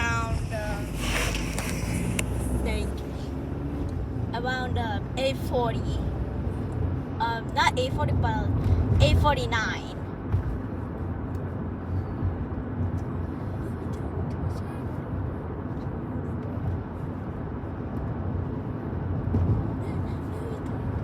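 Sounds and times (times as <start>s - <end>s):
moving car rumble: 0.0s - 21.0s.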